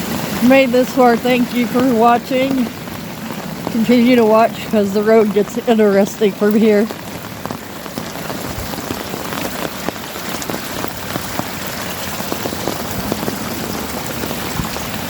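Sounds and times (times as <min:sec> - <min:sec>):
steady rain patter: 0:00.0 - 0:15.0.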